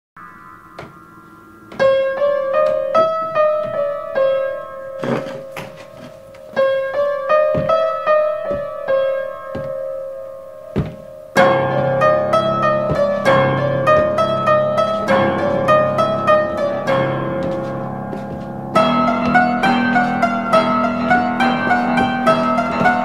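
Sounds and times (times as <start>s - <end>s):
piano playing repetitive tune: 0.2s - 23.0s
dull thumps: 0.7s - 1.1s, 5.0s - 23.0s.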